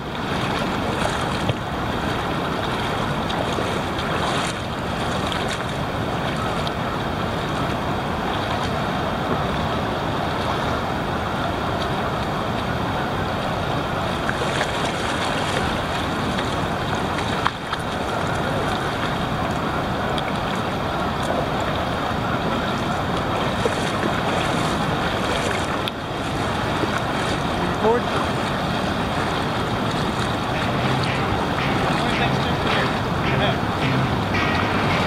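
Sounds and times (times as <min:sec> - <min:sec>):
river water rushing over rocks: 0:00.0 - 0:35.0
wading splashes: 0:00.0 - 0:35.0.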